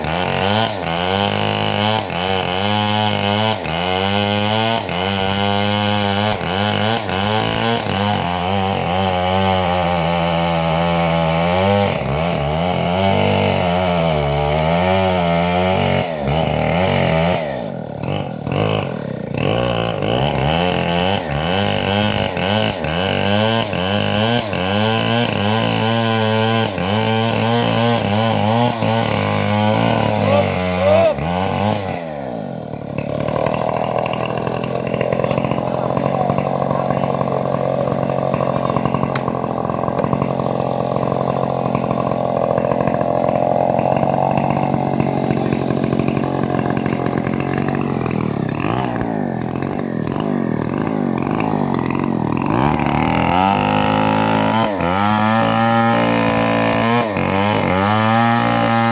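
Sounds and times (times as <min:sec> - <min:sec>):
bandsaw mill cutting wood: 0:00.0 - 0:58.9.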